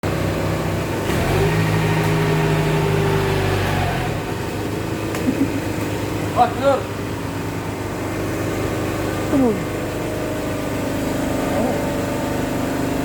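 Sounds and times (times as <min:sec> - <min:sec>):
baling press machine hum: 0:00.0 - 0:13.0.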